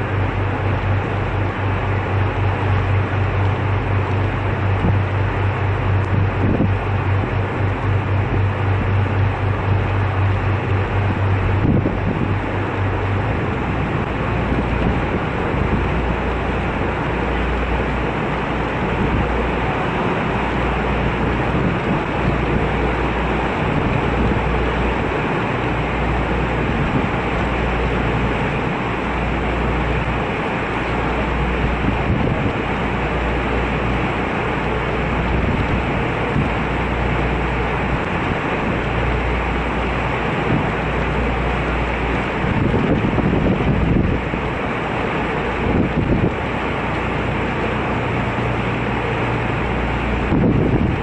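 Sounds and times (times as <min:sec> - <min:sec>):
engine running: 0:00.0 - 0:51.0
wind noise: 0:00.0 - 0:51.0.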